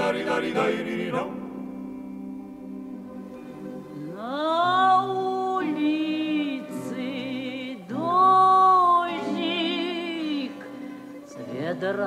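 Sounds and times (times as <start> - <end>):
solo voice singing wordless notes: 0.0 - 10.7.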